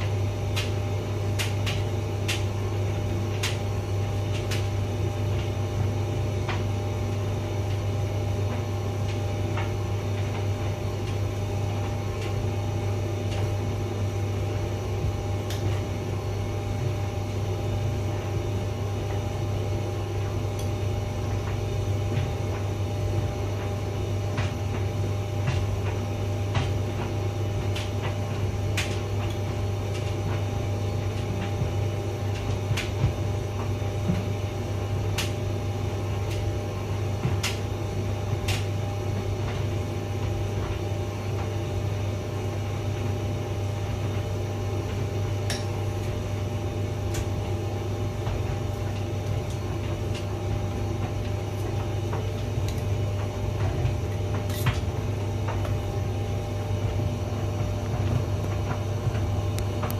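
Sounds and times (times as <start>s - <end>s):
sharp clicks in dryer: 0.0s - 59.9s
tumble dryer humming: 0.0s - 59.9s.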